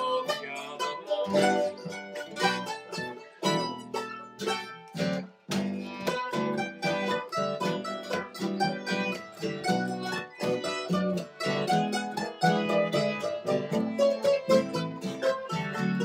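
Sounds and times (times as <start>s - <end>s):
acoustic guitars picking: 0.0s - 16.0s.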